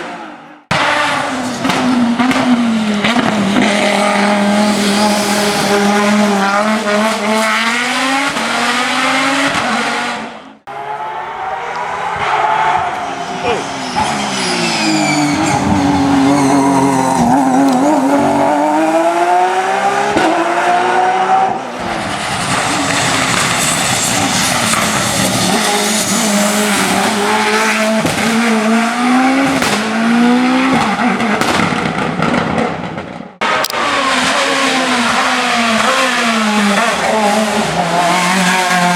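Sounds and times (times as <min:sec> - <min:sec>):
race car engines accelerating: 0:00.0 - 0:38.9.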